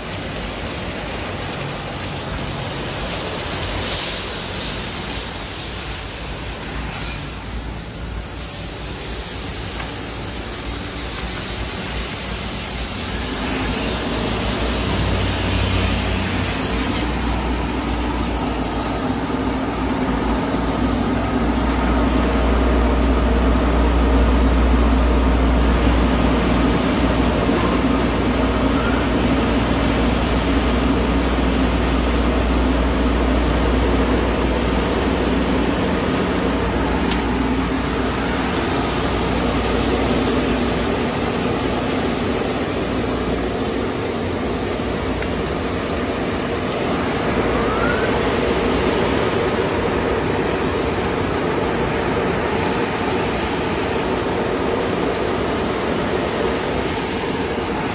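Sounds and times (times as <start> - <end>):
dryer blowers rushing air: 0.0 - 57.9.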